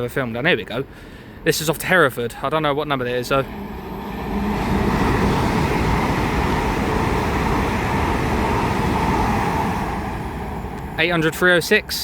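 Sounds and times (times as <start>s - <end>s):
faint train whine: 0.1s - 12.0s
train passing on rails: 1.3s - 12.0s.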